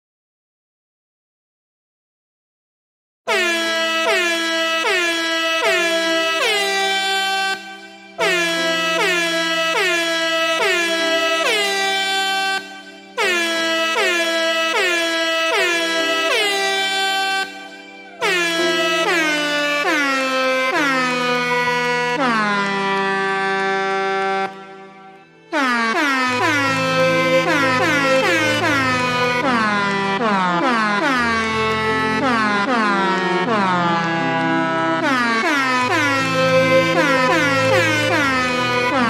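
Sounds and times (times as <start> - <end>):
air horn blasts: 3.3 - 39.0.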